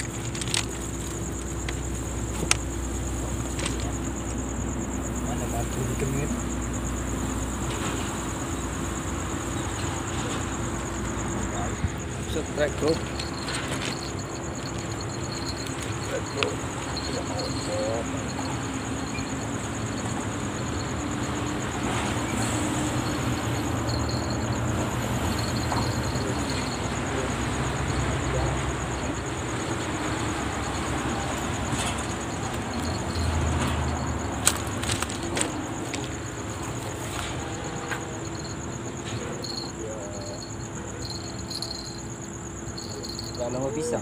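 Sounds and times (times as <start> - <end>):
high pulsing insect trill: 0.0 - 44.0
road traffic rumble: 0.0 - 44.0.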